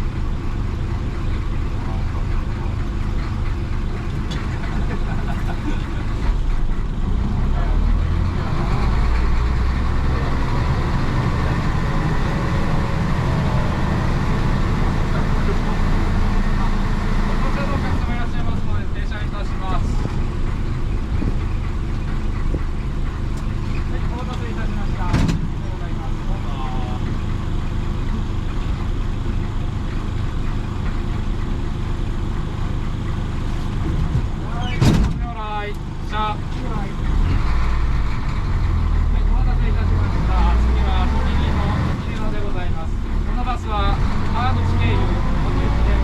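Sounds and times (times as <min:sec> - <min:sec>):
diesel bus engine rumbling: 0:00.0 - 0:46.0
road noise: 0:00.0 - 0:46.0.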